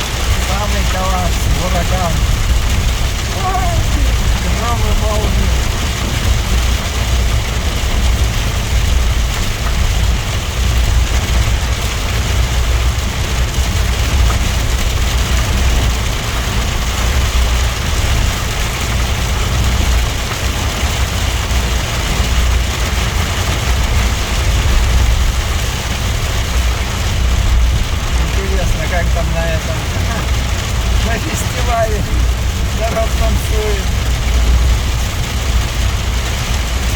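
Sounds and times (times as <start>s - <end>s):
engine and road rumble: 0.0s - 36.9s.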